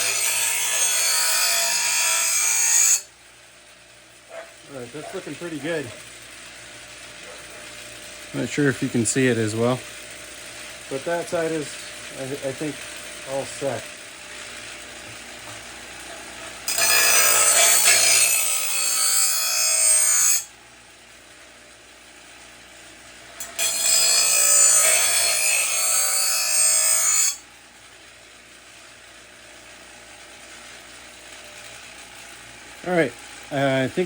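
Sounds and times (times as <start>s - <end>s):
steel blade on grinder wheel: 0.0s - 3.1s, 4.2s - 20.6s, 21.3s - 27.5s, 28.3s - 34.0s.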